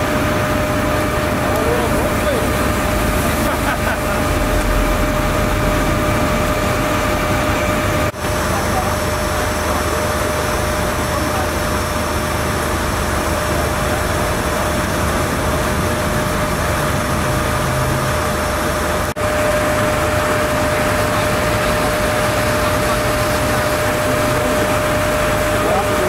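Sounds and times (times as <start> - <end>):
diesel engines idling: 0.0 - 26.0.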